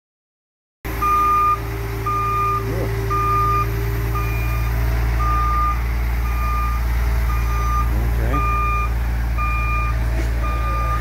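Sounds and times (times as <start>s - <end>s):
diesel engine running: 0.9s - 11.0s
truck reversing alarm beeping: 0.9s - 11.0s.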